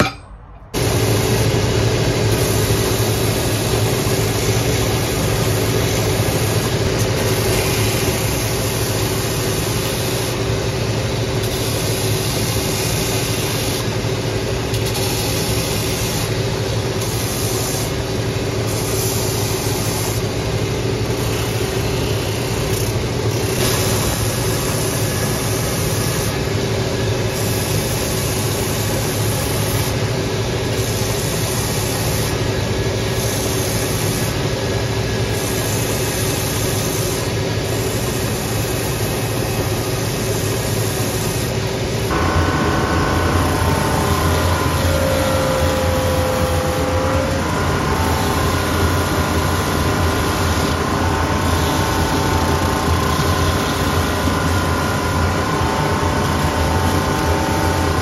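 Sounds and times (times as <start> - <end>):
sanding machine humming: 0.8 - 30.3, 30.9 - 58.0.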